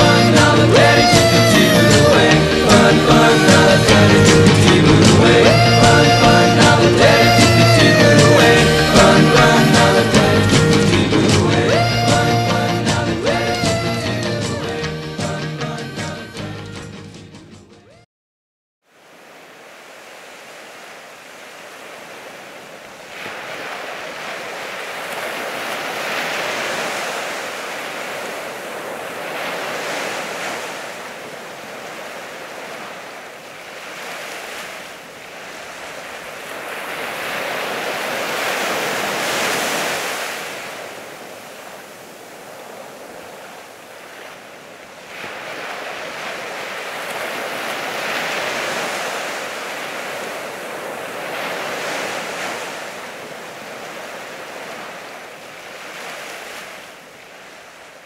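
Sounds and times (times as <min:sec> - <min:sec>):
lake waves washing onto shore: 0:00.0 - 0:13.8, 0:18.9 - 0:58.0.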